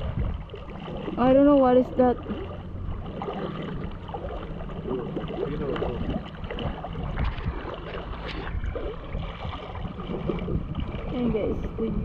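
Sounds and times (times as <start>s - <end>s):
water sloshing around wading legs: 0.0s - 12.0s
wind rumble on microphone: 0.0s - 12.0s.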